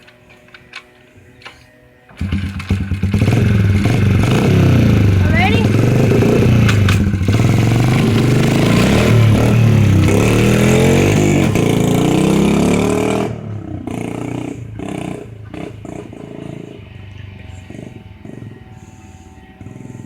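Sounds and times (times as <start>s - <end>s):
dirt bike engine revving: 2.1s - 18.9s.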